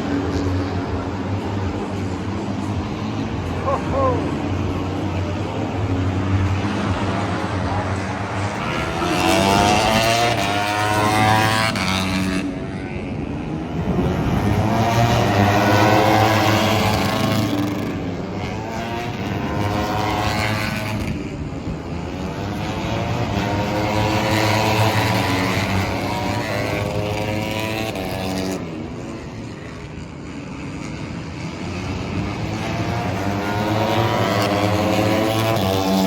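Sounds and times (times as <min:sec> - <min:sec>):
racing motorcycles passing: 0:00.0 - 0:36.0.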